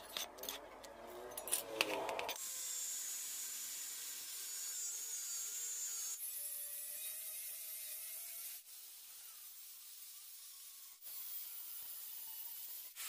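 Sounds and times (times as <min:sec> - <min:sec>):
angle grinder cutting steel: 0:01.4 - 0:13.0.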